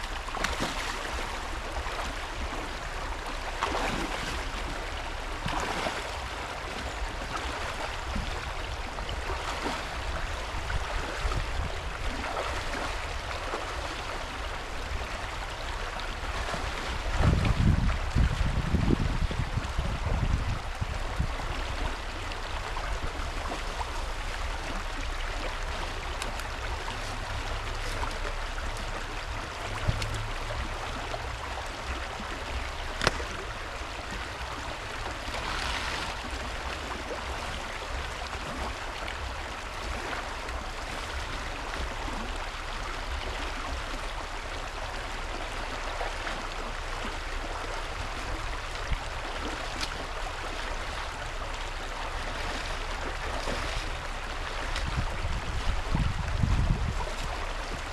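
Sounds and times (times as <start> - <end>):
creek water flowing over rocks: 0.0 - 57.9.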